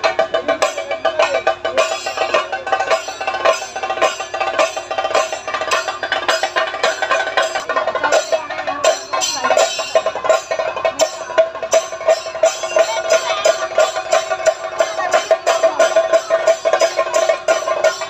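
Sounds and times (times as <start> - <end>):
fast dense drum strokes: 0.0 - 18.0
metallic ringing: 0.0 - 18.0.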